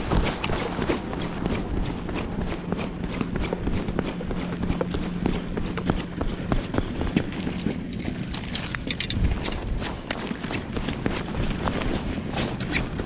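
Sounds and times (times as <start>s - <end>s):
quick footsteps: 0.0s - 13.0s
steady low hum: 0.0s - 13.0s.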